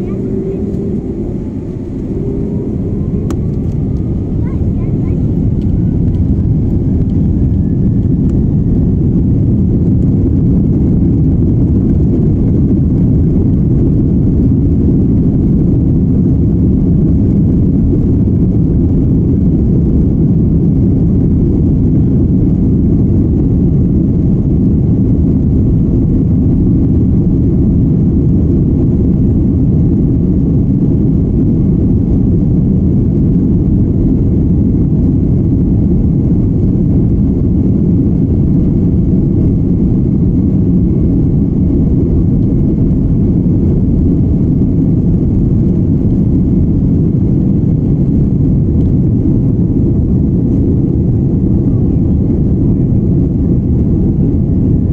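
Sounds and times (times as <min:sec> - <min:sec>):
jet engine rumble in cabin: 0:00.0 - 0:54.9.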